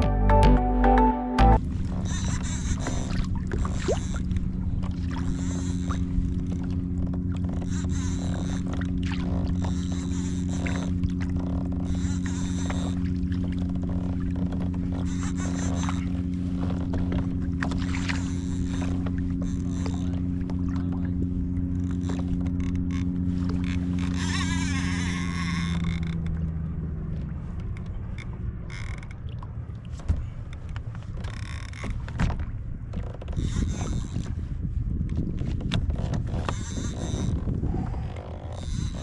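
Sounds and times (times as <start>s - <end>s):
boat motor humming: 0.0s - 34.8s, 35.6s - 39.0s.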